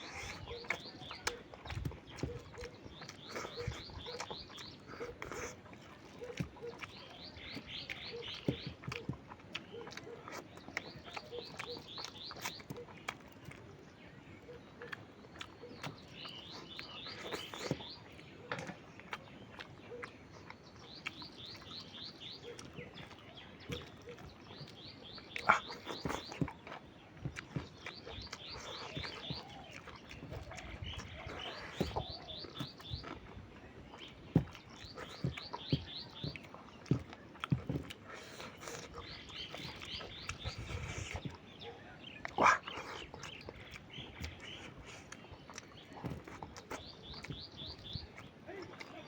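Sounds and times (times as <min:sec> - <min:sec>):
close eating sounds: 0:00.0 - 0:49.0.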